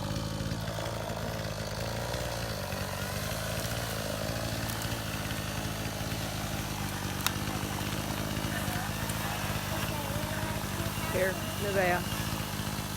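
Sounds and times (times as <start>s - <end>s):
chainsaw engine running: 0.0s - 12.9s.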